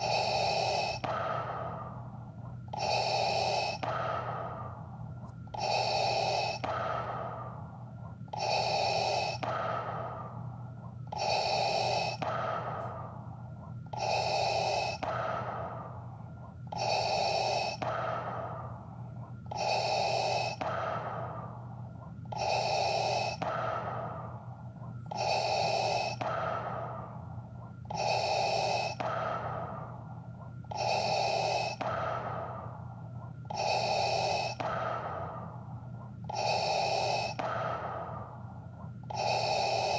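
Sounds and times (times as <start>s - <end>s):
mechanical respirator breathing: 0.0s - 39.9s
steady low hum: 0.0s - 39.9s.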